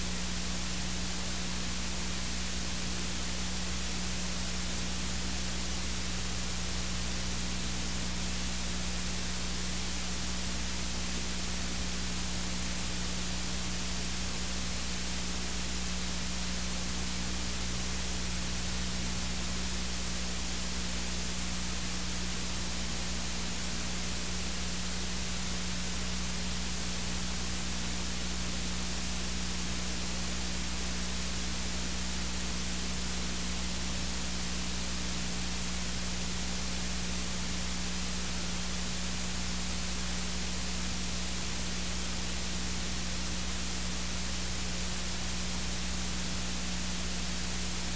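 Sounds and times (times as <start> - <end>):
static hiss: 0.0 - 47.9.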